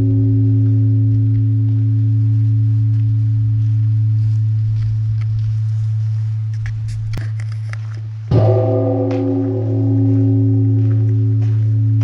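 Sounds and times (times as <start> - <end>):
large bronze bell humming: 0.0 - 7.5, 8.2 - 12.0.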